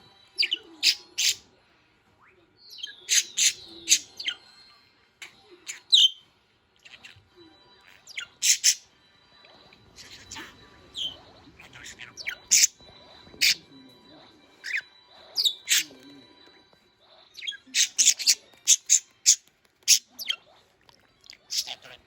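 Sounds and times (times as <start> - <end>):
parrots chirping and squawking: 0.4 - 1.5, 2.2 - 4.6, 5.2 - 13.7, 14.6 - 16.0, 17.2 - 22.0.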